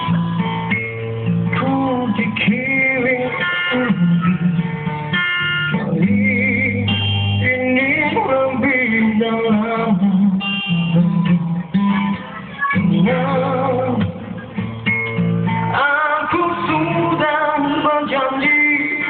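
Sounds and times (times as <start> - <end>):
acoustic guitar: 0.0 - 19.0
man singing: 1.4 - 4.9, 5.7 - 14.7, 15.6 - 19.0.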